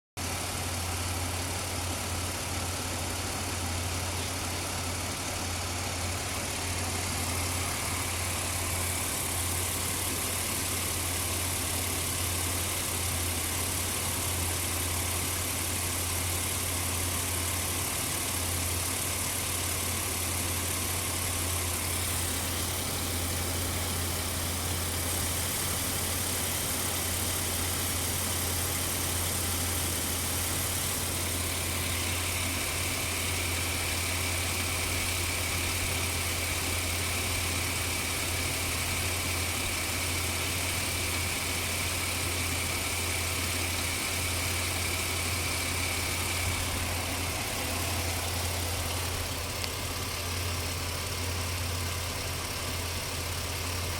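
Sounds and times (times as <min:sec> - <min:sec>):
car engine idling roughly: 0:00.2 - 0:53.9.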